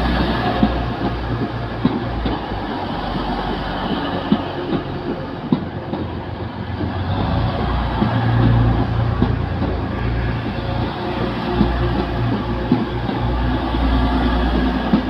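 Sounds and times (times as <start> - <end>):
diesel train rumble: 0.0 - 15.0
wheels clicking over rail joints: 0.0 - 15.0.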